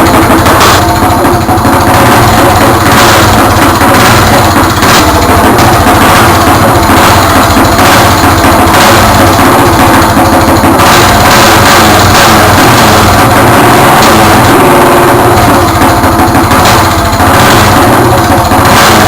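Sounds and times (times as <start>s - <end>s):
kart engine running: 0.0s - 19.0s.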